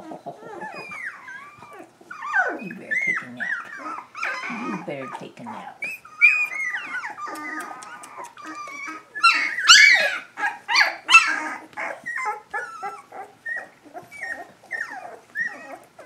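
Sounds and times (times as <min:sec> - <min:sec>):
puppies whimpering and yipping: 0:00.0 - 0:16.0.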